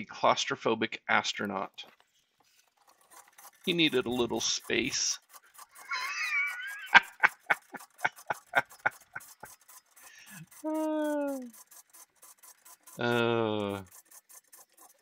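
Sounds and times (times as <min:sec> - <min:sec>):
cordless drill drilling metal: 0:02.7 - 0:15.0.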